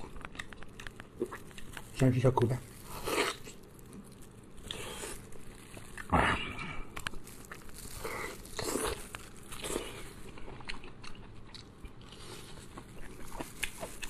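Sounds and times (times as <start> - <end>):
person biting and chewing food: 0.0 - 14.0.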